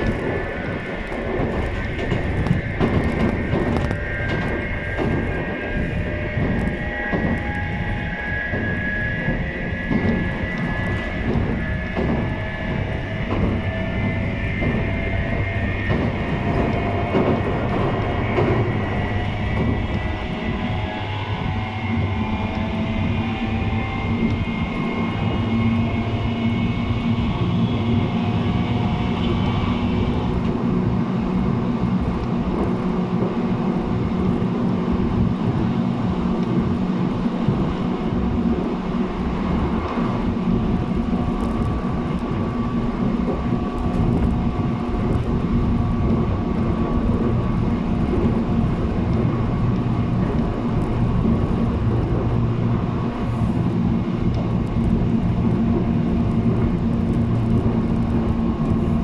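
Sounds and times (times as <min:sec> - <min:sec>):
train motor and gear whine: 0:00.0 - 0:59.0
wheels rumbling on rail: 0:00.0 - 0:59.0.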